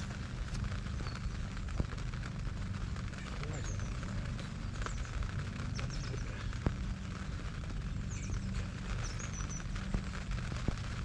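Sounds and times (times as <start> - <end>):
low rumble: 0.0 - 11.0
small birds chirping: 0.0 - 11.0.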